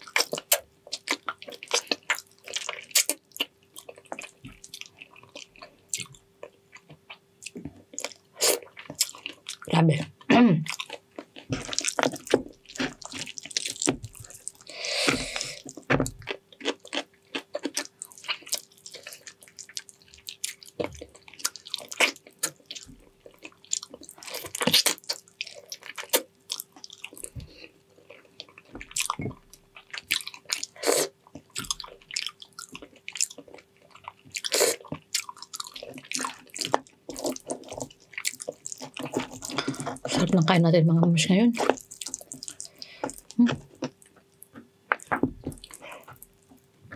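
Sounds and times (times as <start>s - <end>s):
wet chewing and lip-smacking: 0.0s - 40.3s, 41.6s - 46.9s
faint steady hum: 0.0s - 46.9s.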